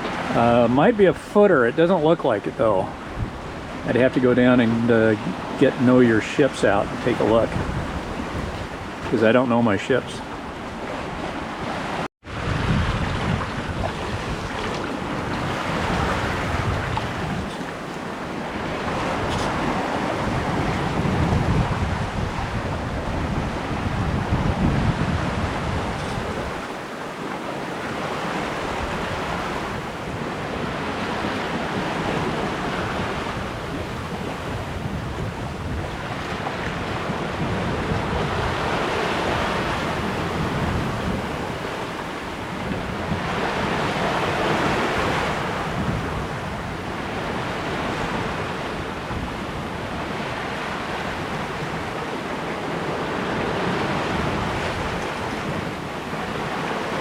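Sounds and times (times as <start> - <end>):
waves washing against hull: 0.0 - 57.0
wind buffeting microphone: 0.0 - 57.0.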